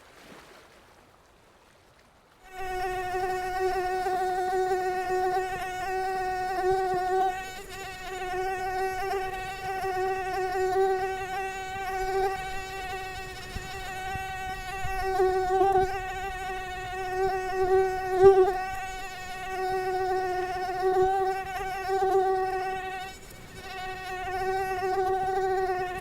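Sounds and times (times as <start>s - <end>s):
mosquito whine: 2.5s - 26.0s.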